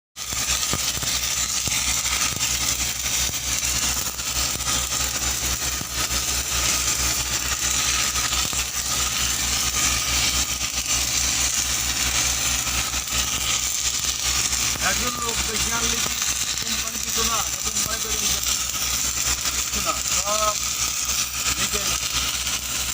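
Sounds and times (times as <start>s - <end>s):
machine low drone: 0.2s - 22.9s
welding arc hissing and crackling: 0.2s - 22.9s.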